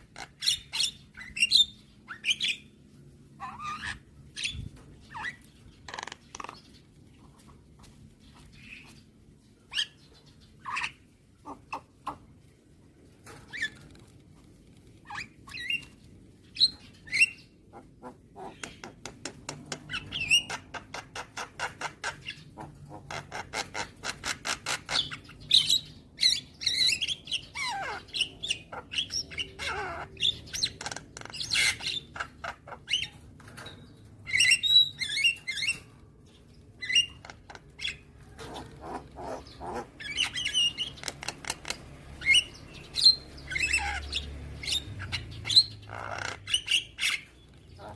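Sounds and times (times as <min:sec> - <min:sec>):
myna bird singing: 0:00.0 - 0:12.6, 0:13.2 - 0:47.9.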